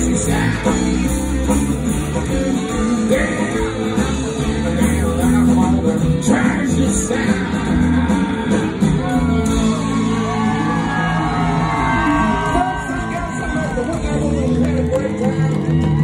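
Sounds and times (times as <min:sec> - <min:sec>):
live country band playing: 0:00.0 - 0:16.0
person singing or shouting: 0:02.2 - 0:16.0.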